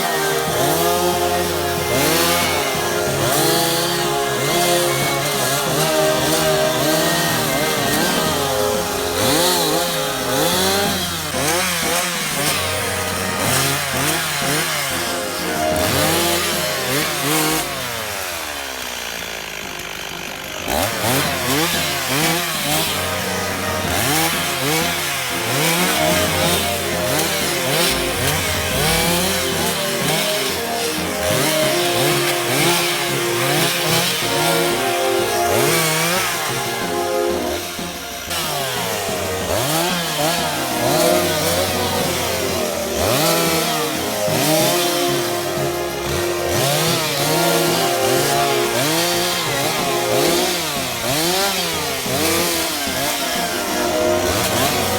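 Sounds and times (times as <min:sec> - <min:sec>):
chainsaw revving: 0:00.0 - 0:54.9.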